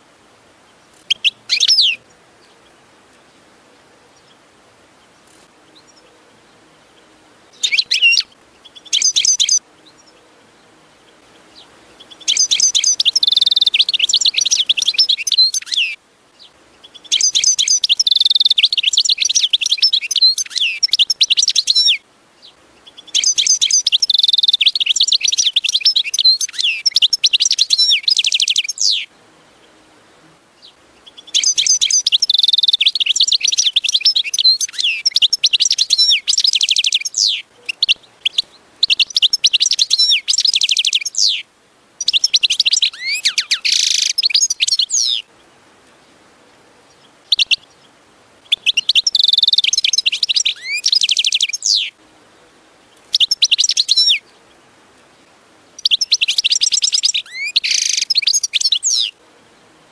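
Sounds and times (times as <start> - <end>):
goldfinch twittering song: 0.7 - 3.5, 4.1 - 29.8, 30.6 - 45.3, 46.8 - 52.0, 52.9 - 54.6, 55.8 - 59.2.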